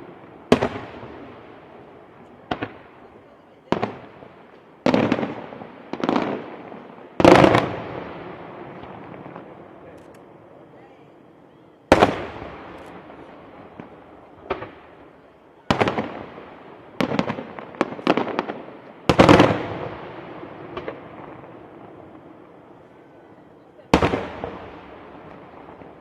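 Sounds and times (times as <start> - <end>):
fireworks exploding: 0.0 - 26.0.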